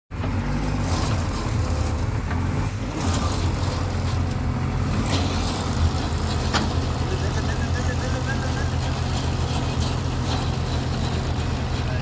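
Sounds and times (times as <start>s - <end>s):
diesel engine running: 0.1s - 12.0s.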